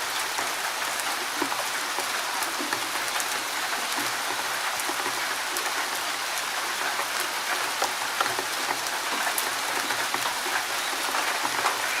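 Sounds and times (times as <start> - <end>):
raindrops ticking close by: 0.0 - 12.0
steady rain hiss: 0.0 - 12.0.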